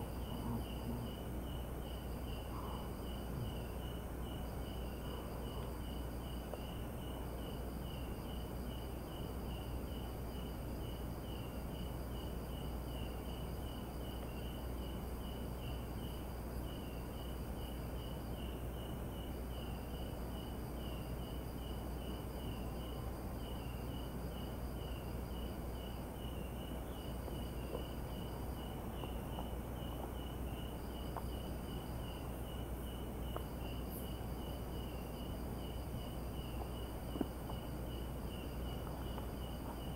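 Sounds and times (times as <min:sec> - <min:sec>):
high insect trill: 0:00.0 - 0:39.9
rapid insect chirping: 0:00.0 - 0:39.9.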